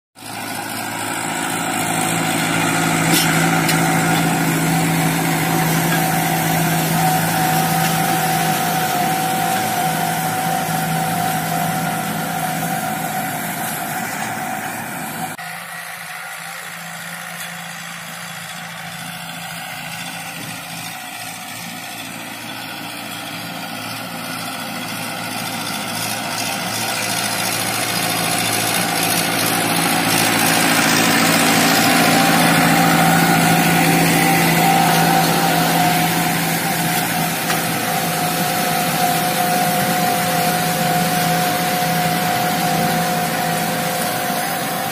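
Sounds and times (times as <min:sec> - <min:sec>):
tractor diesel engine under load: 0:00.2 - 0:44.9.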